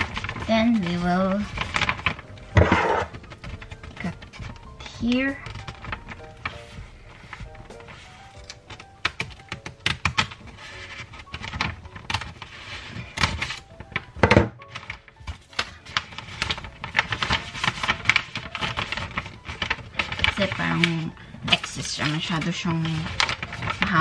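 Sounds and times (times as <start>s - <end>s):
wrapping paper crinkling: 0.0s - 24.0s.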